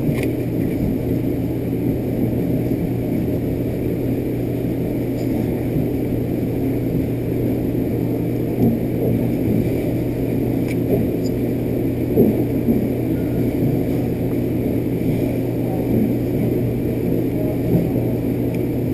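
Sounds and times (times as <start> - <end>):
low hum: 0.0 - 18.9
low rumble: 0.0 - 18.9.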